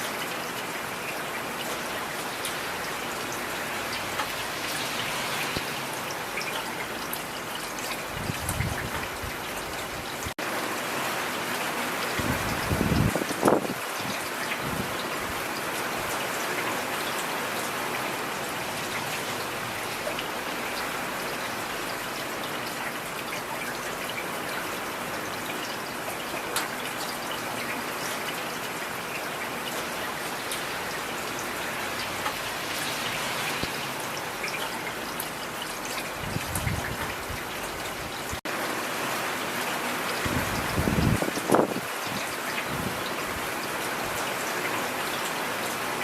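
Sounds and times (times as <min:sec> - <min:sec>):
heavy rain falling: 0:00.0 - 0:46.0
rain drops ticking: 0:00.0 - 0:46.0.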